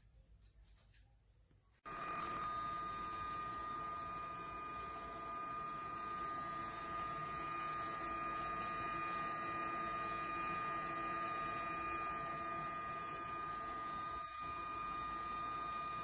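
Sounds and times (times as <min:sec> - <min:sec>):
machine hum with high whine: 0:01.9 - 0:16.0.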